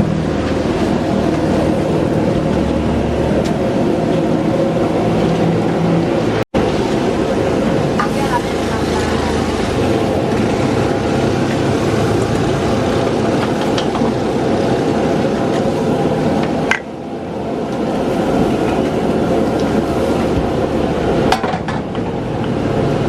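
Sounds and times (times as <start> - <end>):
wok burner roaring: 0.0 - 23.0.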